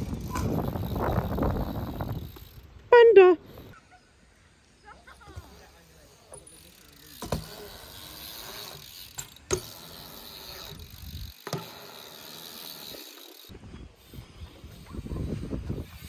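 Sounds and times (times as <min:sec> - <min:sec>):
bike tyres rolling on concrete: 0:00.0 - 0:02.9, 0:04.7 - 0:16.0.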